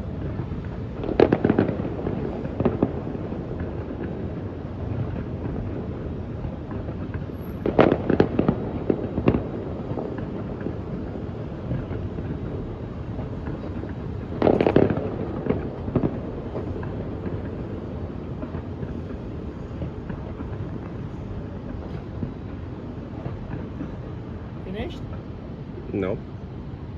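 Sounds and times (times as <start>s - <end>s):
fireworks bangs and crackles: 0.0s - 26.9s
fireworks pops: 0.1s - 25.3s.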